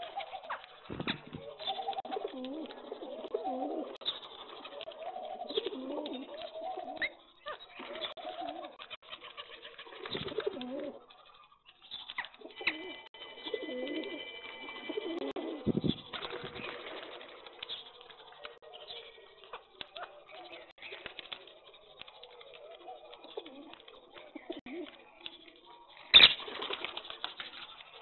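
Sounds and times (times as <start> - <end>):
wing flutters: 0.0 - 12.5, 15.4 - 18.6, 19.5 - 24.0, 25.3 - 28.0
pigeons cooing: 0.0 - 28.0.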